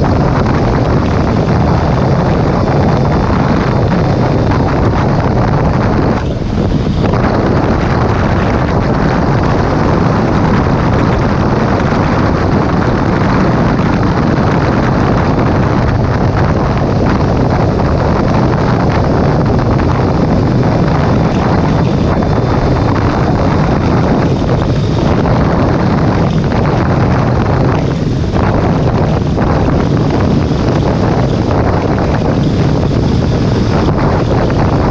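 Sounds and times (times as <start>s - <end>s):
motorcycle engine: 0.0s - 34.9s
wind rushing over microphone: 0.0s - 34.9s.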